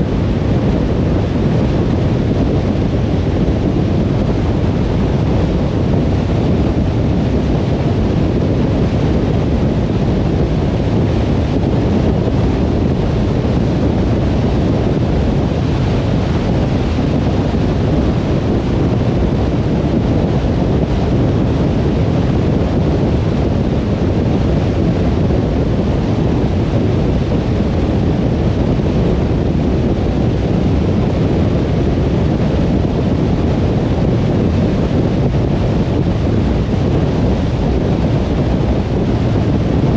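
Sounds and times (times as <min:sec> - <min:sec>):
car driving on motorway: 0:00.0 - 0:39.9.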